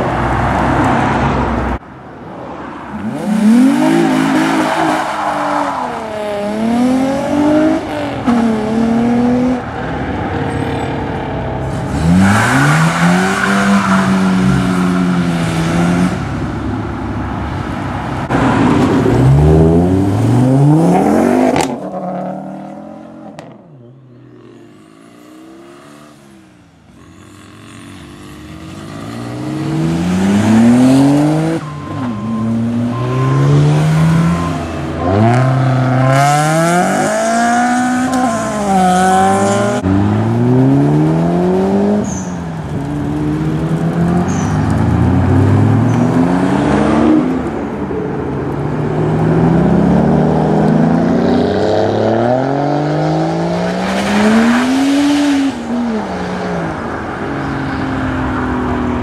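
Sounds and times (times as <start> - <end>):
car engines revving hard: 2.8 - 10.3, 11.1 - 23.6, 24.6 - 59.0.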